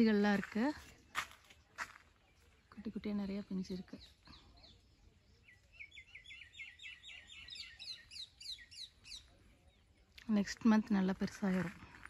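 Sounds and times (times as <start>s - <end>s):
bird singing: 0.0s - 10.6s.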